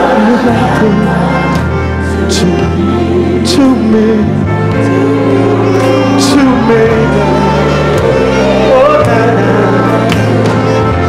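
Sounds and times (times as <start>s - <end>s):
man singing into a microphone: 0.0s - 1.6s, 2.2s - 4.9s, 5.6s - 11.0s
live gospel band: 0.0s - 11.0s
steady bass notes: 0.0s - 11.0s.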